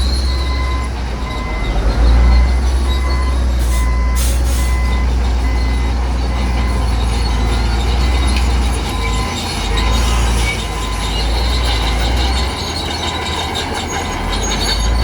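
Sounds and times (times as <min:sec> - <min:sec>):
backup alarm beeping: 0:00.0 - 0:13.4
heavy machinery engine rumbling: 0:00.0 - 0:15.0.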